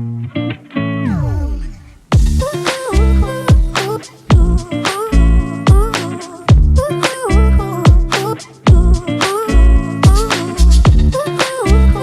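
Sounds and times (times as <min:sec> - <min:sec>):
r and b music with bass drum: 0:02.1 - 0:12.0.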